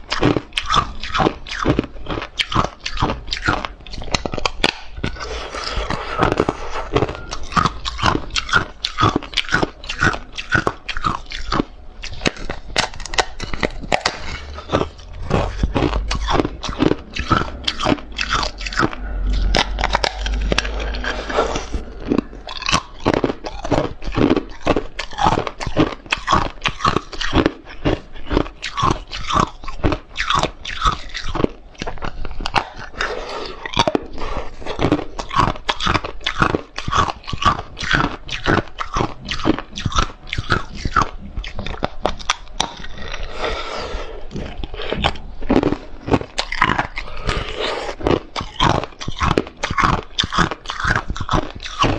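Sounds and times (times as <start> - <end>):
ice crunching while chewed: 0.0 - 51.9.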